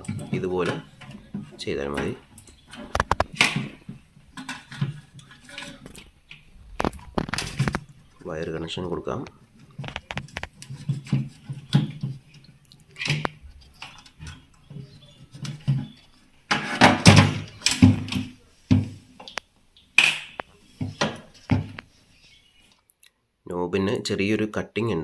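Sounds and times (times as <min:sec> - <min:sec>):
hands clicking and rattling parts: 0:00.0 - 0:21.9.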